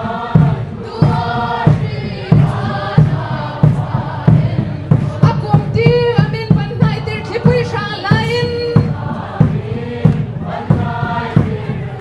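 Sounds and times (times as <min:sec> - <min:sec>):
group of voices singing: 0:00.0 - 0:12.0
steady drum beat: 0:00.0 - 0:12.0.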